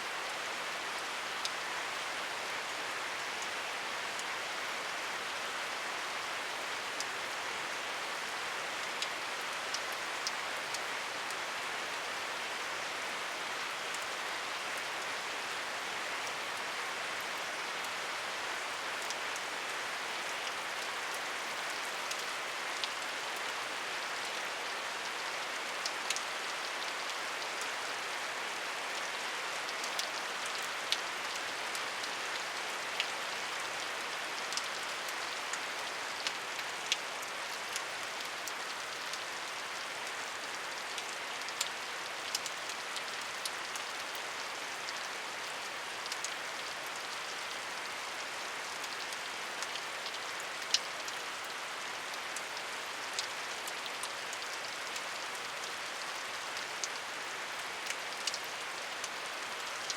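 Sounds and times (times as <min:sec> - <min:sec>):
steady rain hiss: 0:00.0 - 0:59.9
raindrops ticking on a surface: 0:00.2 - 0:59.9.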